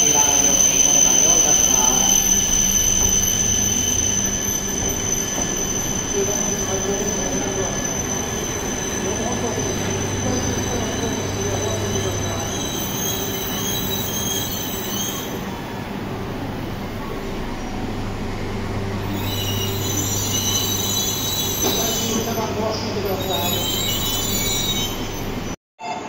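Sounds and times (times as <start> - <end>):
train rumble: 0.0 - 25.6.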